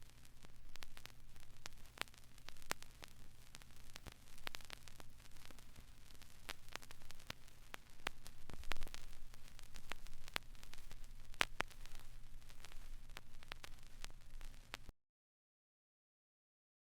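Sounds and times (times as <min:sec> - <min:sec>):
faint crackling and clicks: 0:00.0 - 0:14.9.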